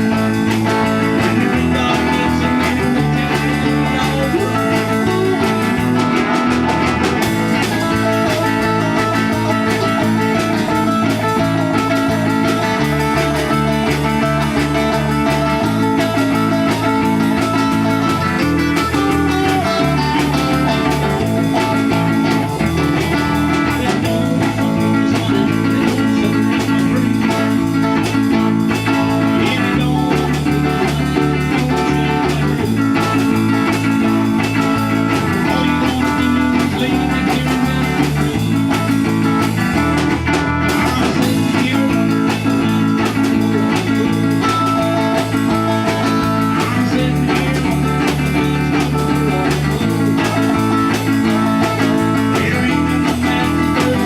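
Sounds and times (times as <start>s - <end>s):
band playing instrumental: 0.0s - 54.0s.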